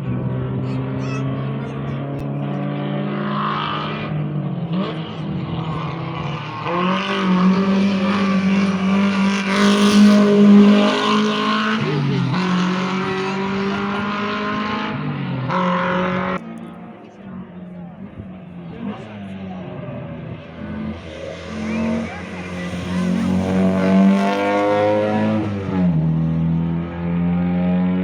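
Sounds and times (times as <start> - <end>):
car engine revving hard: 0.0 - 16.7, 18.0 - 28.0.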